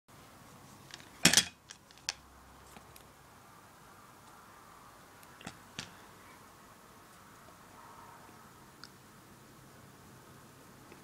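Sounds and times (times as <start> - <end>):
faint room hiss: 0.1 - 11.0.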